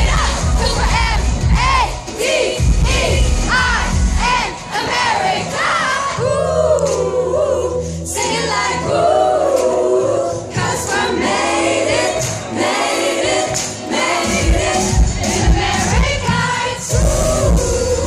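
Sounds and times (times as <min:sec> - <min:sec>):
amplified music with strong beat: 0:00.0 - 0:07.0, 0:07.8 - 0:18.0
women singing together: 0:00.0 - 0:18.0.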